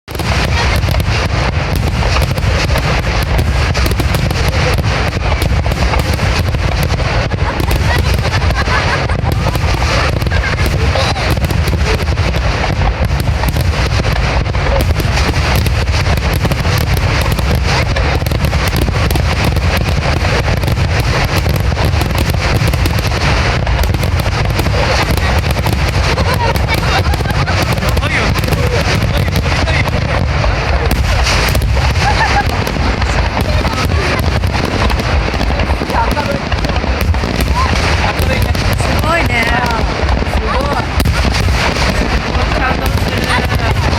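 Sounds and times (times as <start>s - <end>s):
fireworks bursting: 0.0s - 43.9s.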